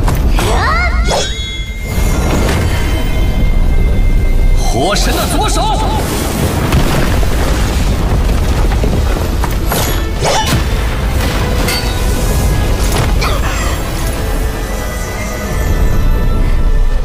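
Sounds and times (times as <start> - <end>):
dramatic music: 0.0 - 17.0.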